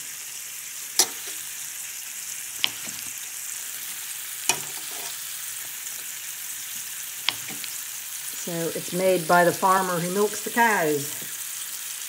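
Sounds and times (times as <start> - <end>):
meat sizzling in butter: 0.0 - 12.0.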